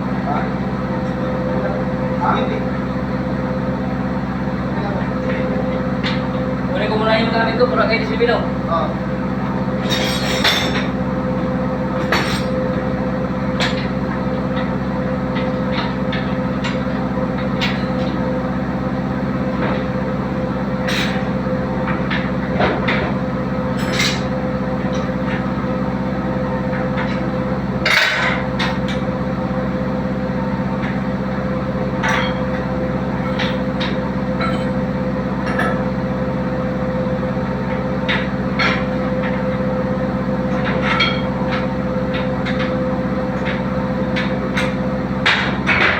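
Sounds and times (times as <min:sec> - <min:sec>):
steady mechanical drone: 0:00.0 - 0:45.9.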